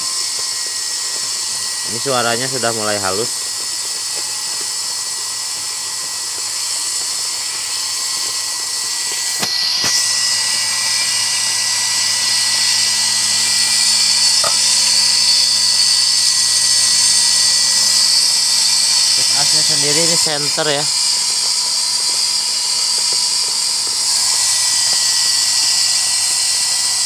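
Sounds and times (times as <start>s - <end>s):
spinner shaft high whine: 0.0s - 27.0s.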